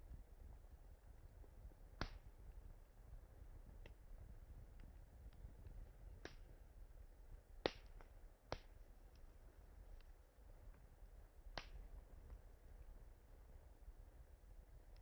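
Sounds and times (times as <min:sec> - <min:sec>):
campfire wood crackling: 0:00.1 - 0:15.0.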